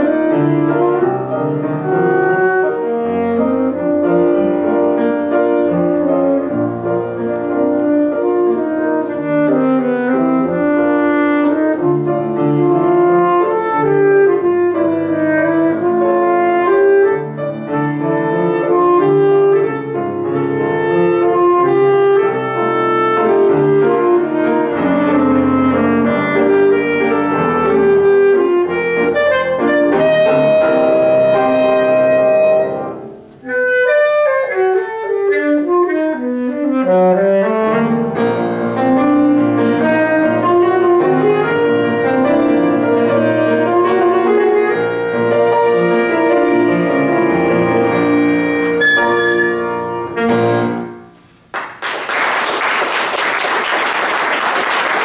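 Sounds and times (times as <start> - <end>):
saxophone playing: 0.0 - 51.1
piano accompaniment: 0.0 - 55.0.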